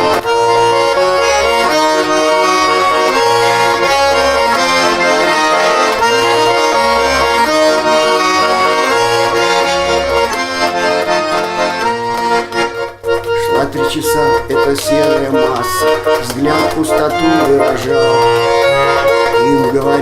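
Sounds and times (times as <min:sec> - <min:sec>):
accordion waltz: 0:00.0 - 0:20.0.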